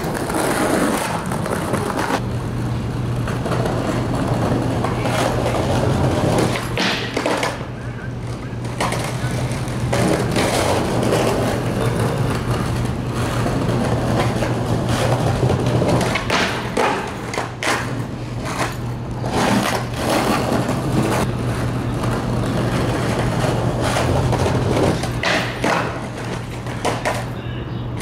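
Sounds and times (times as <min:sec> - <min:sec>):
skateboard clacking on ground: 0:00.0 - 0:02.3, 0:02.9 - 0:28.0
skateboard wheels rumbling on stone: 0:00.0 - 0:27.4.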